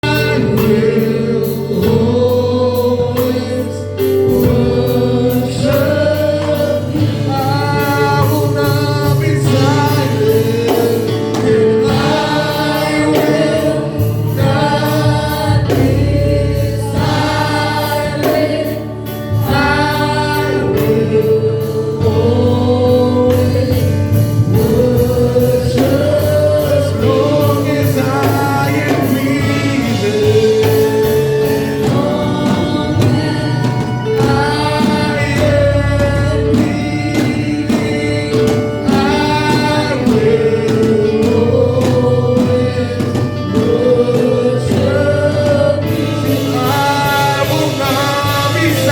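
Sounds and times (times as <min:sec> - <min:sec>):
gospel choir singing: 0:00.0 - 0:48.9
sustained bass accompaniment: 0:00.0 - 0:48.9.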